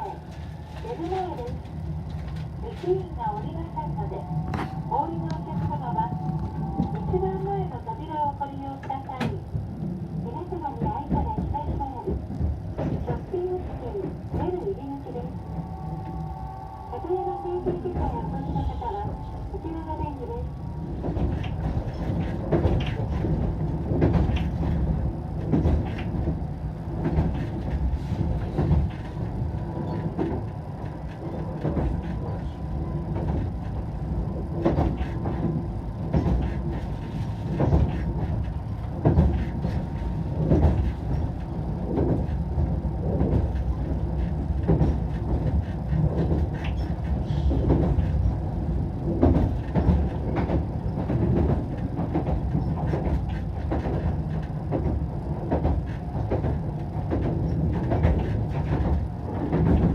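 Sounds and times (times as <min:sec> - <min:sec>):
rail car low rumble: 0:00.0 - 0:59.9.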